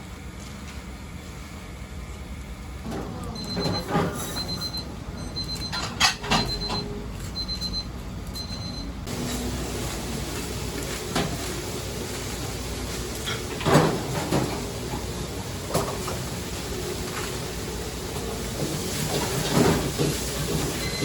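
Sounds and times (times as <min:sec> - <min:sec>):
hum of kitchen equipment: 0:00.0 - 0:21.0.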